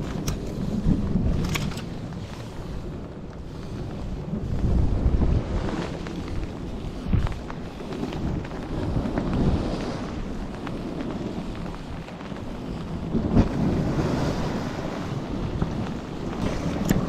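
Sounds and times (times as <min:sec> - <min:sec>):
surf on rocky shore: 0:00.0 - 0:17.0
wind buffeting microphone: 0:00.0 - 0:17.0.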